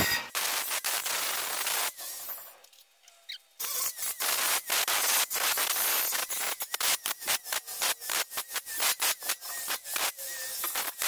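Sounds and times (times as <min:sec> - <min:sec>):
angle grinder sanding metal: 0:00.0 - 0:02.7, 0:03.6 - 0:11.0.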